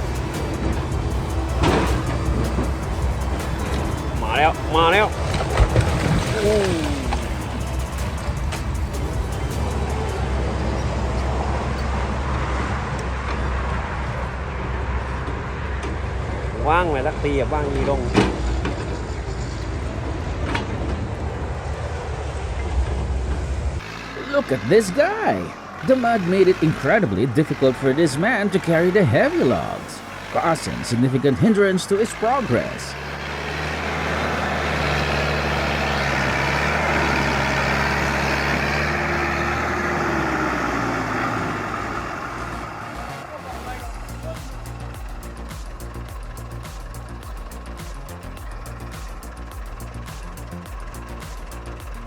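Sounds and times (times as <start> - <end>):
heavy vehicle engine rumble: 0.0 - 52.0.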